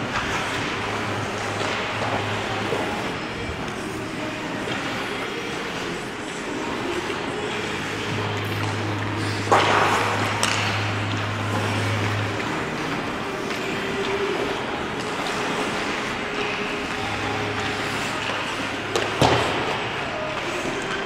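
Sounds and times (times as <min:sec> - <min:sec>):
skates scraping on ice: 0:00.0 - 0:21.0.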